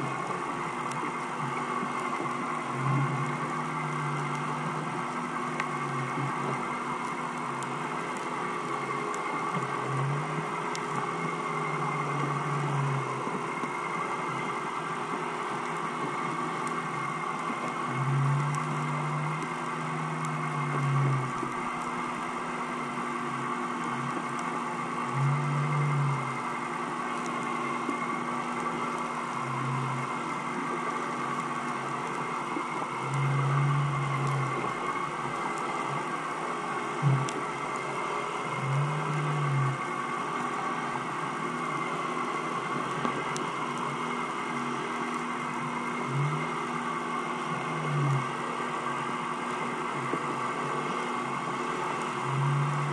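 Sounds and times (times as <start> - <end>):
deeper hum: 0.0 - 52.9
mechanical hum underwater: 0.0 - 52.9.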